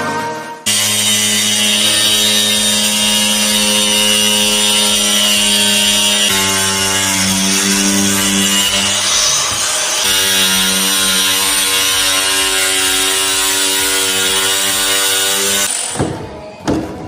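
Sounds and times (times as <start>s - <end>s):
power tool motor running: 0.7s - 15.9s.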